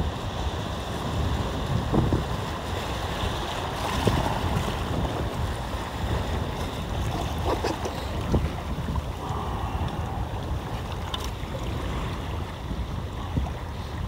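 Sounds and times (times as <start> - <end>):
sea water lapping: 0.0 - 14.0
wind buffeting microphone: 0.0 - 14.0
water splashes: 0.3 - 14.0.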